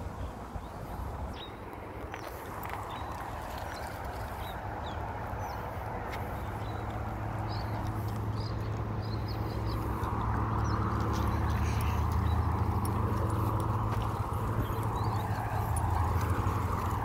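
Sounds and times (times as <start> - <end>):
bike tyres crunching on gravel: 1.8 - 17.0
dog paws on gravel: 2.0 - 17.0.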